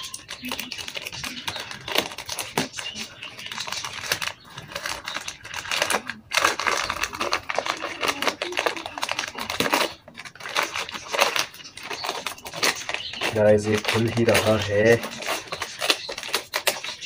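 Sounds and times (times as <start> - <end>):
wrapping paper tearing and crinkling: 0.0 - 17.0.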